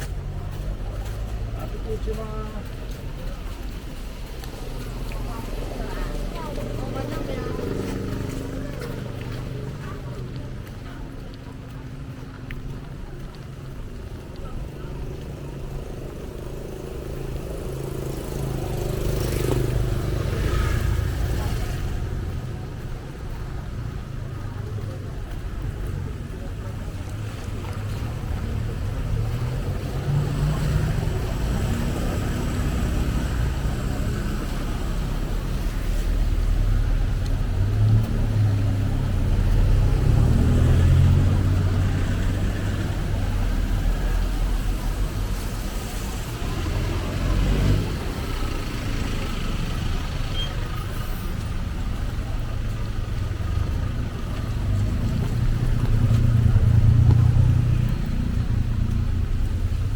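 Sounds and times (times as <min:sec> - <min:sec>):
vehicles passing close by: 0:00.0 - 0:59.9.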